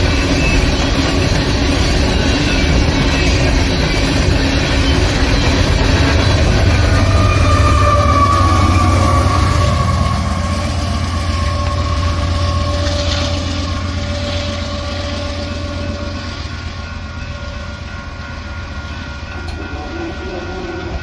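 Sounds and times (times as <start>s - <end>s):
freight train rumbling on rails: 0.0s - 21.0s.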